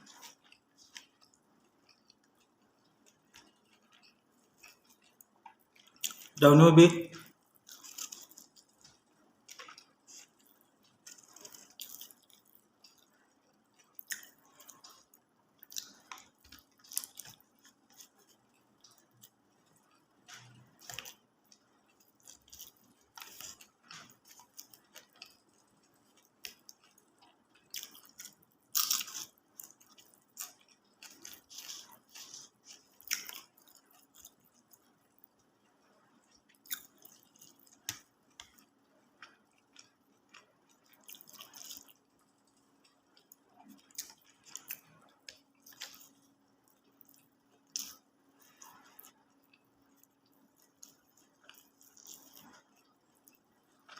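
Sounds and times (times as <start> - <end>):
person chewing food: 0.0 - 6.4, 7.2 - 53.9.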